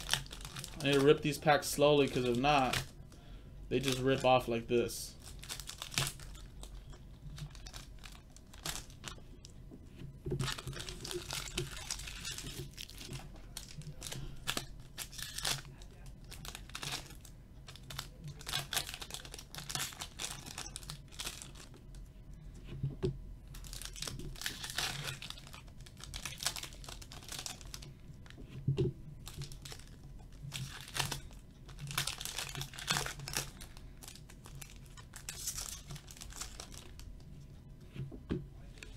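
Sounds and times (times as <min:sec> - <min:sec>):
wrappers crinkling and tearing: 0:00.0 - 0:03.1, 0:03.7 - 0:09.5, 0:10.4 - 0:22.0, 0:23.5 - 0:28.4, 0:29.2 - 0:37.2.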